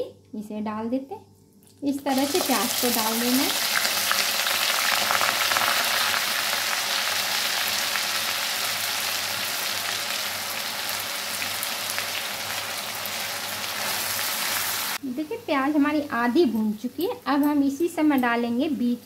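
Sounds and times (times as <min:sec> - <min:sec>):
onion paste sizzling in hot oil: 0:01.9 - 0:17.2.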